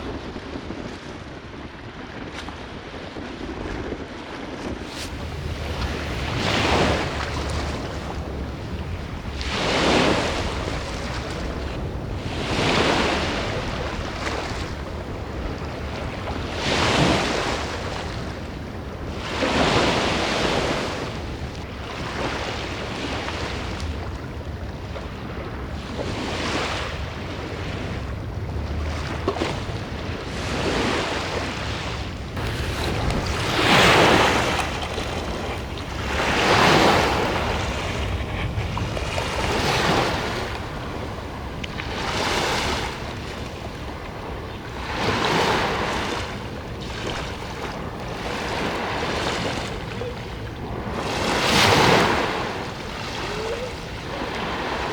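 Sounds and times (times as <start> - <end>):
wind buffeting microphone: 0.0 - 54.9
sea waves washing in: 4.8 - 54.9.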